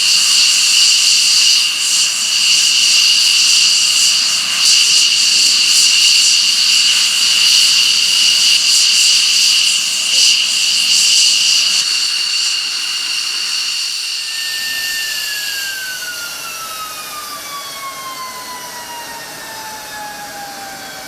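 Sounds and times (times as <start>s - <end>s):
jet engine whine spooling down: 0.0s - 21.0s.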